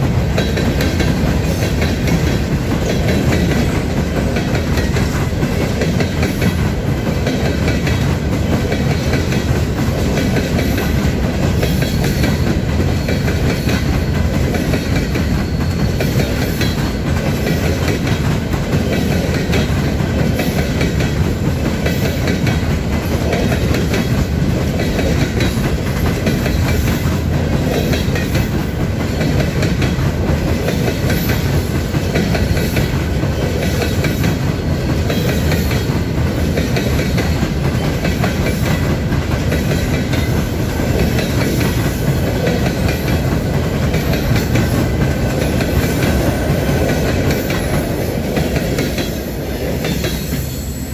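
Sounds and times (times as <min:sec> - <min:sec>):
wheels clicking over rail joints: 0:00.0 - 0:50.4
train wheels rumbling on rail: 0:00.0 - 0:50.9.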